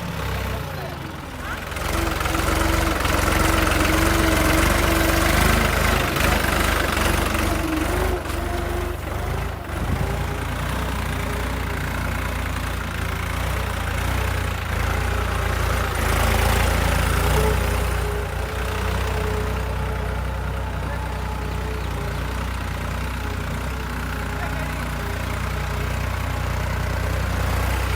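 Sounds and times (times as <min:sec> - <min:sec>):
tractor engine rumbling: 0:00.0 - 0:27.9.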